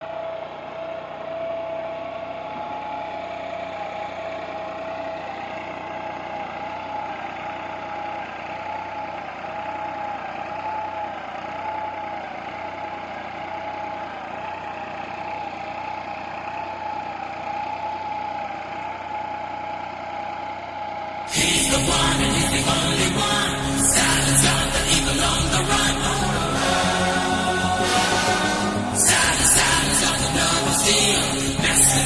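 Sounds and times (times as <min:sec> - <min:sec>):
tractor diesel engine under load: 0:01.9 - 0:32.0.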